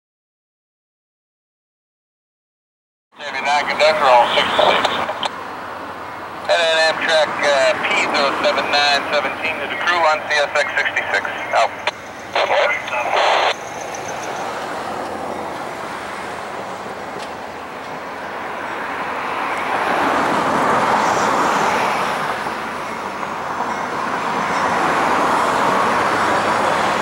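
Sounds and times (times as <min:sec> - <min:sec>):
road traffic rushing past: 0:03.2 - 0:27.0.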